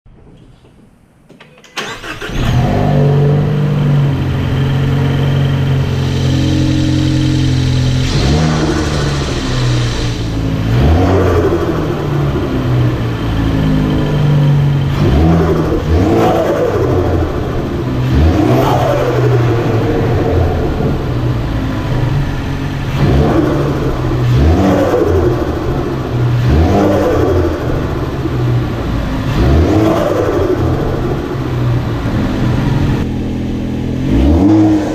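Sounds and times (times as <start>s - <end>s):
turbocharged car engine revving: 1.8s - 34.9s.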